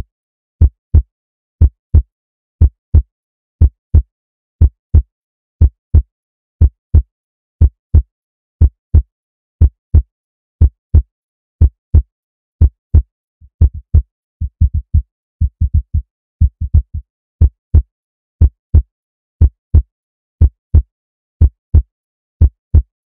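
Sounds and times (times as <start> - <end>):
heartbeat: 0.6 - 23.0.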